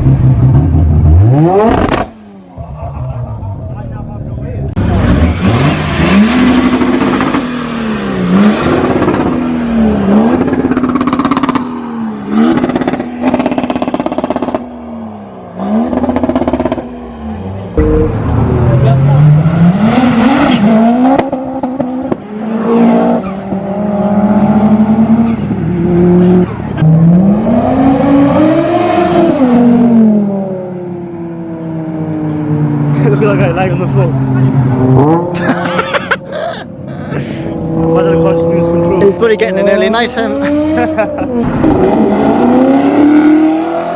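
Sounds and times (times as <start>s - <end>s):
car engine revving: 0.0s - 4.0s, 4.7s - 36.2s, 36.9s - 43.9s.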